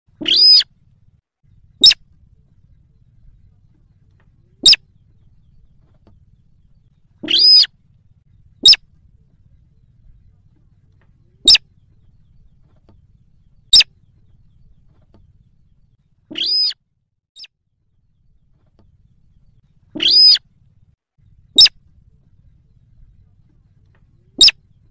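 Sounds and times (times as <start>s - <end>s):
rail bird calls: 0.1s - 16.8s, 18.2s - 24.9s.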